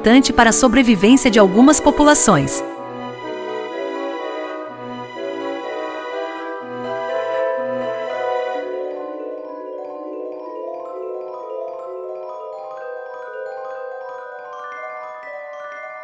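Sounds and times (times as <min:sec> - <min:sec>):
mallet percussion music: 0:01.2 - 0:16.0.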